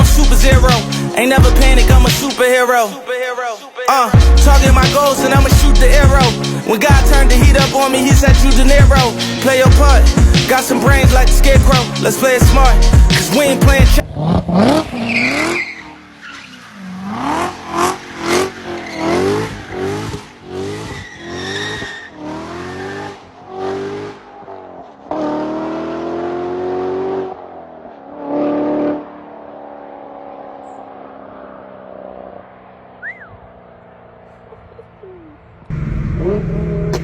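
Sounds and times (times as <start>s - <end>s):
car engine revving: 0.0s - 2.6s, 4.2s - 37.0s.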